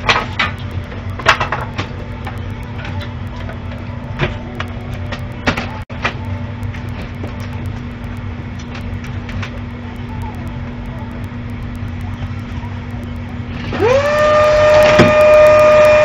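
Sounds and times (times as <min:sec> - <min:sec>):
electric motor whine: 0:00.0 - 0:16.0
faint clicks: 0:00.0 - 0:16.0
steady low hum: 0:00.0 - 0:16.0.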